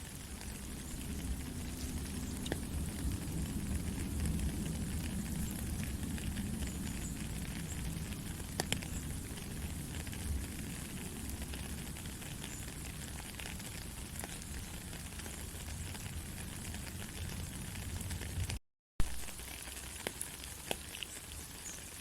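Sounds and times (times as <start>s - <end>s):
steady rain hiss: 0.0s - 22.0s
low rumble: 0.3s - 18.6s.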